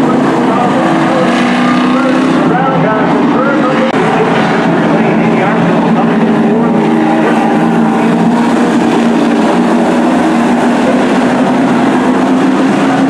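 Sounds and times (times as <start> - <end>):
racing truck engines roaring: 0.0 - 13.0.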